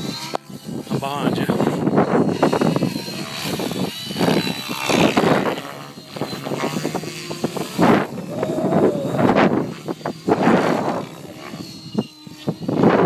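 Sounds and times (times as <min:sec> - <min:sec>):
helicopter rotor blades whooshing: 0:00.0 - 0:13.0.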